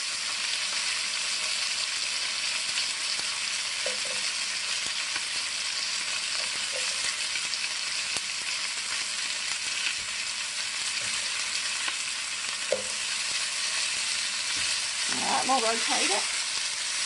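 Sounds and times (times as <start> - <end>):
meat and vegetables sizzling in a pan: 0.0 - 17.0.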